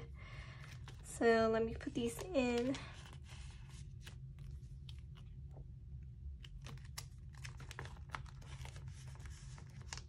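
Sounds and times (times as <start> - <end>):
plastic sleeves crinkling and clicking: 0.6 - 5.7, 6.3 - 10.0.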